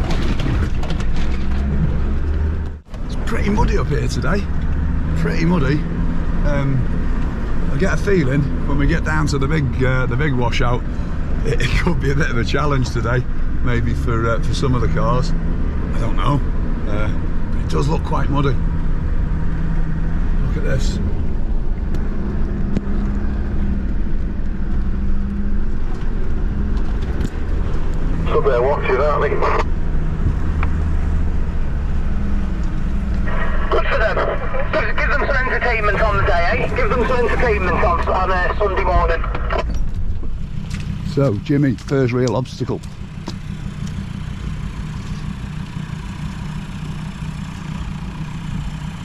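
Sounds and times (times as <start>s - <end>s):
engine running at low speed: 0.0s - 49.0s.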